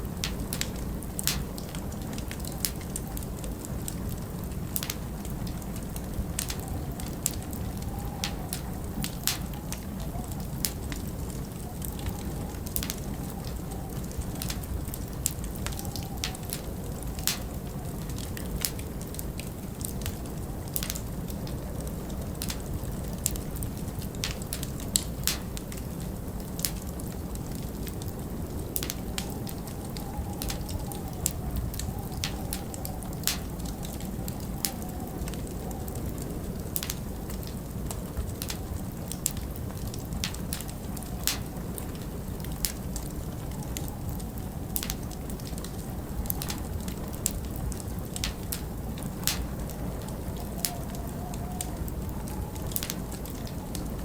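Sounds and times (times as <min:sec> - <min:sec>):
low rush of wind: 0:00.0 - 0:54.0
wood fire crackling and popping: 0:00.0 - 0:54.0.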